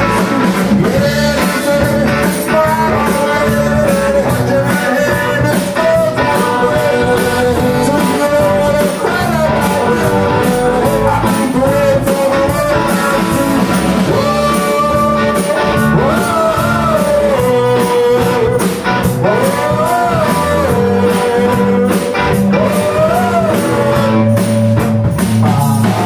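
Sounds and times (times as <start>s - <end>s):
man singing into a microphone: 0.0s - 26.0s
rock band playing: 0.0s - 26.0s.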